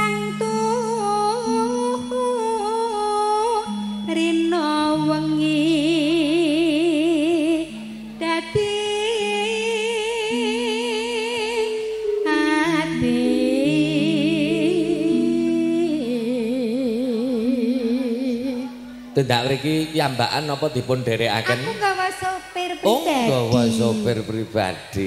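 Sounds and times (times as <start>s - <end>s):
woman singing with vibrato: 0.0s - 19.0s, 21.5s - 24.2s
held accompaniment notes: 0.0s - 25.0s.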